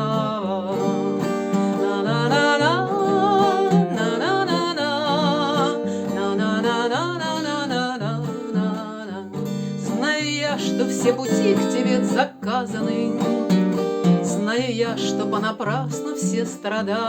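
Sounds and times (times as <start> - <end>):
wordless vocal melody with vibrato: 0.0 - 13.5, 14.2 - 17.0
acoustic guitar: 0.0 - 17.0.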